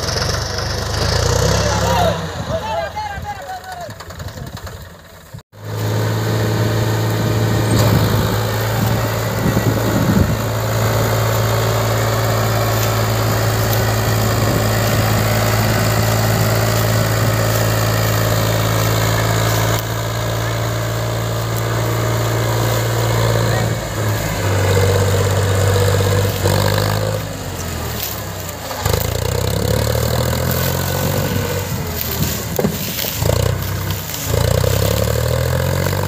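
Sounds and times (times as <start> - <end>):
tractor diesel engine drone: 0.0 - 2.6, 3.9 - 36.0.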